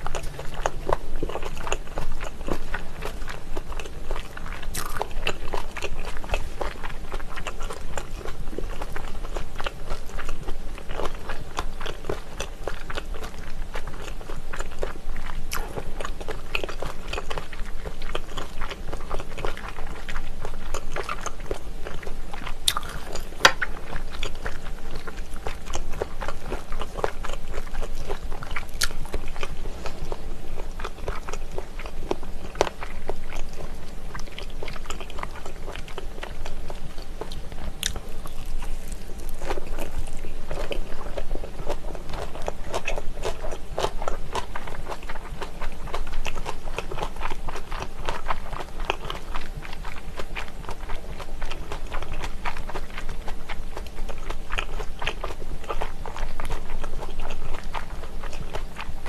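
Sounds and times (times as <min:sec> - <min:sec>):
wet chewing and mouth clicks: 0:00.0 - 0:59.0.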